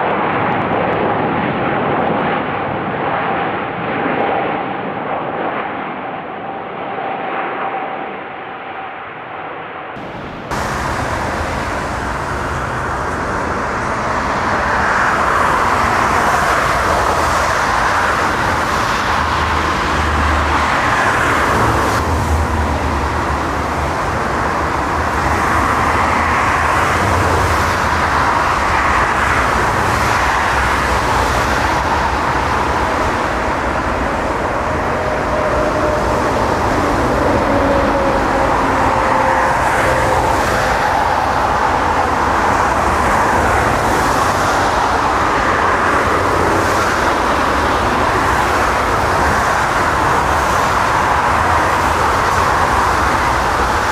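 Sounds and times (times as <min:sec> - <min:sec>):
vehicle roar with low rumble: 0:09.9 - 0:53.9.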